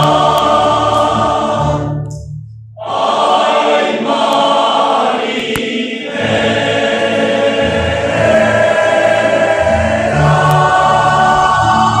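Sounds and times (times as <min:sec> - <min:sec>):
choir-like voices: 0:00.0 - 0:02.1, 0:02.8 - 0:12.0.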